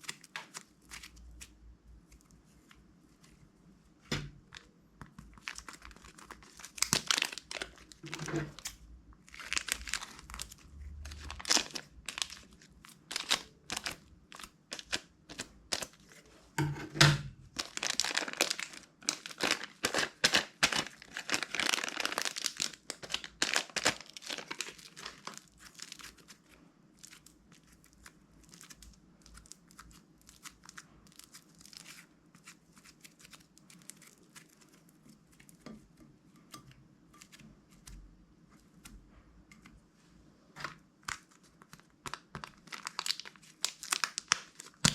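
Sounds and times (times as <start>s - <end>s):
slime squishing wet crackles: 0.0s - 3.3s, 4.5s - 16.0s, 17.6s - 39.8s, 41.0s - 44.9s.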